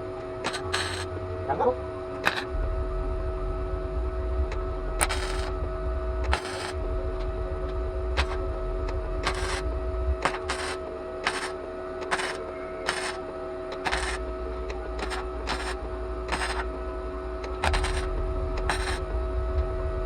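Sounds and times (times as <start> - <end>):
welder hum: 0.0 - 20.0
welding arc crackling: 0.4 - 19.8.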